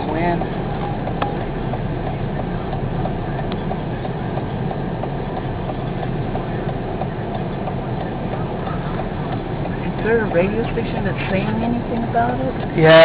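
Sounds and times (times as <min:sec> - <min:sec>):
light regular ticking: 0:00.0 - 0:13.0
wind rushing against a car: 0:00.0 - 0:13.0.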